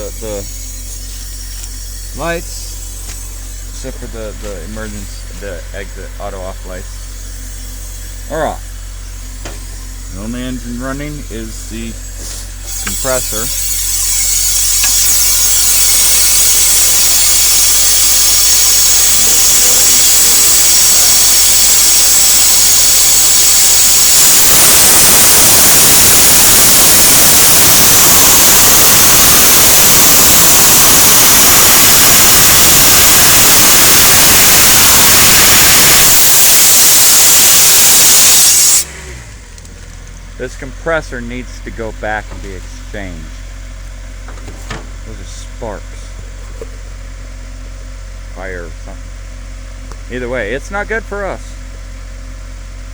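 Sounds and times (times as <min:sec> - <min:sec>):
compressor running loudly: 0:00.0 - 0:52.9.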